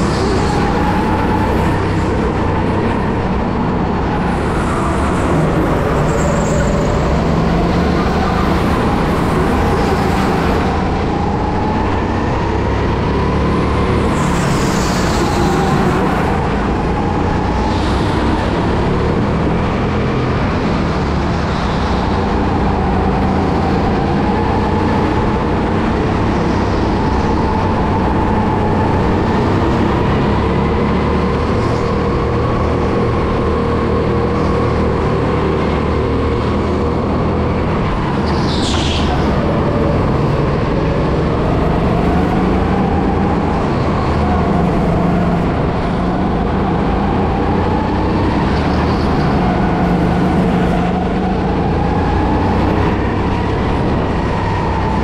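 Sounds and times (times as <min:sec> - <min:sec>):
rolling and wind noise: 0:00.0 - 0:55.0.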